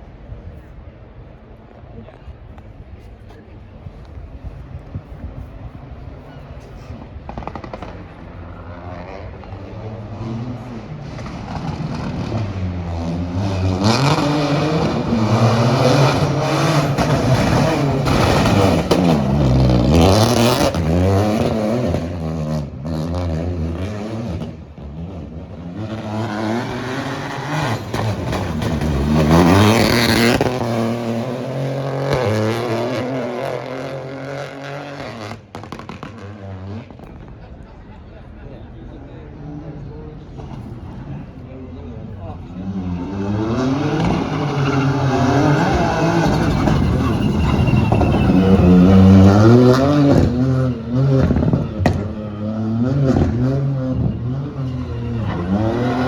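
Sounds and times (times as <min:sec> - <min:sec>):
rally car engine at full throttle: 0:03.0 - 0:56.0.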